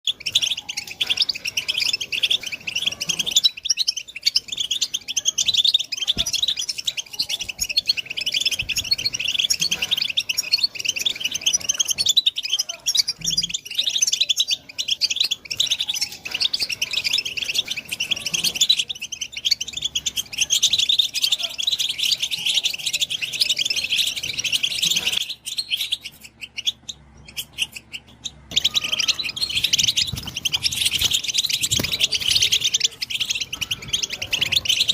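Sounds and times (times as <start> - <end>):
goldfinch twittering song: 0.0 - 34.9.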